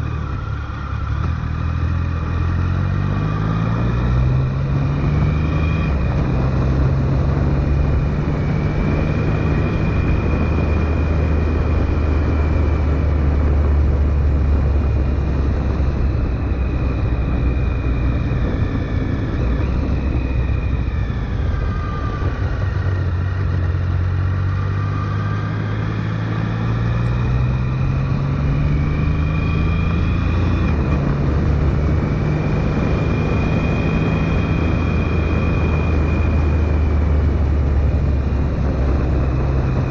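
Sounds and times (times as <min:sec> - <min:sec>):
motorcycle engine running: 0:00.0 - 0:39.9
wind rushing: 0:03.5 - 0:24.5, 0:25.2 - 0:39.9.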